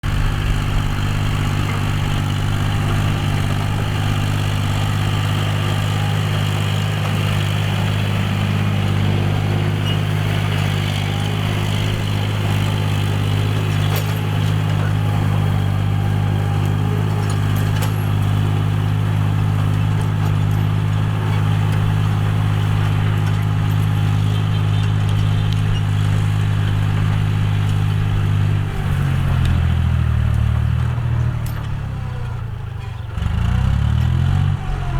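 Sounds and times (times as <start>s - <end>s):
diesel tractor engine under load: 0.0s - 34.9s.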